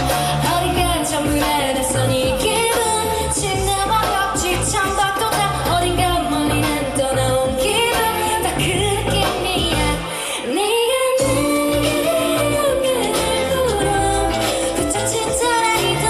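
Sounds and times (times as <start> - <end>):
heavy bass line: 0.0 - 10.1, 11.2 - 16.0
live pop band: 0.0 - 16.0
person singing: 0.0 - 16.0.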